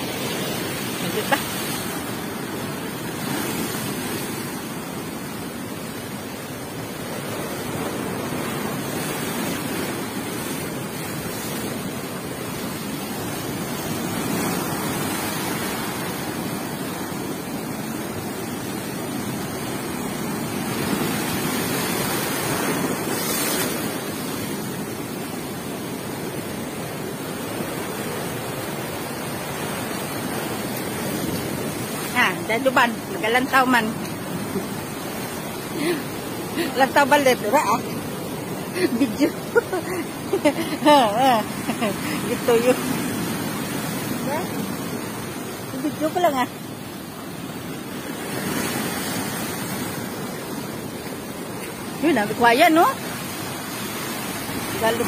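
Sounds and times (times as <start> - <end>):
waves breaking against shore: 0.0 - 55.0.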